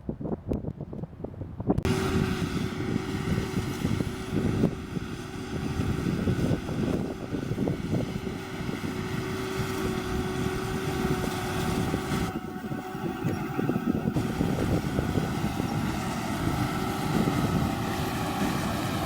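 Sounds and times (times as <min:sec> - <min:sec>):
tractor and baler rumble: 0:01.8 - 0:19.0.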